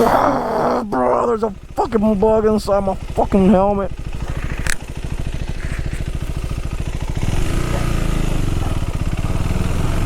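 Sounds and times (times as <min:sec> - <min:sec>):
motorcycle engine chugging: 0:00.0 - 0:10.0.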